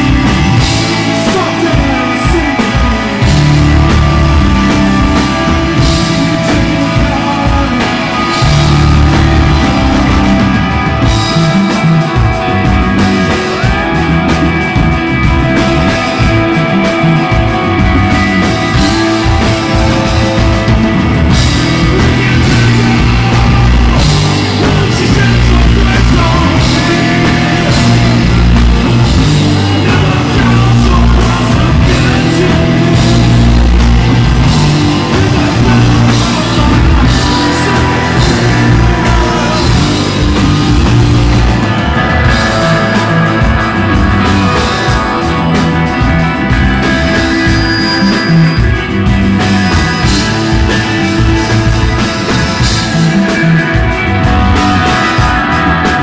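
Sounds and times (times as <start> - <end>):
loud rock music: 0.0 - 56.0
person singing: 0.0 - 56.0.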